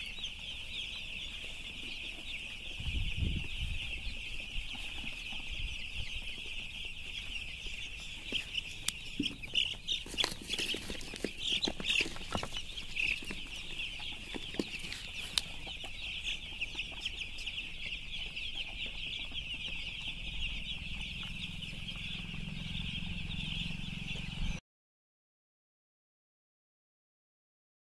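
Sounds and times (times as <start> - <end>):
chicks peeping: 0.0 - 24.6.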